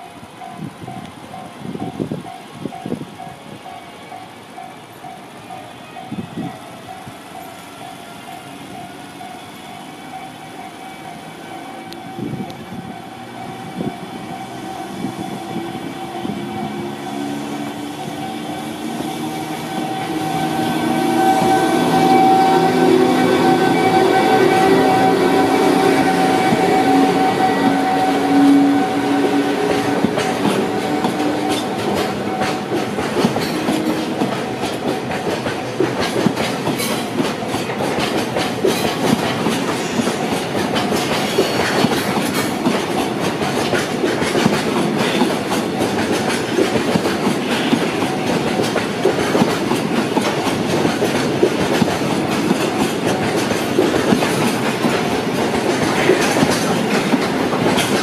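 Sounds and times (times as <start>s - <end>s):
electric locomotive hum: 0.0s - 58.0s
train wheels clacking over rail joints: 0.0s - 58.0s.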